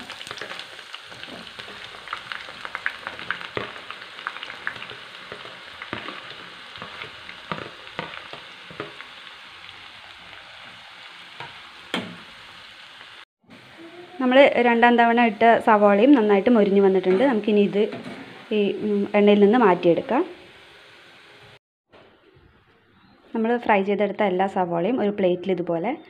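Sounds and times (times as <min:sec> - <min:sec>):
onions deep-frying with crackles: 0:00.0 - 0:21.6.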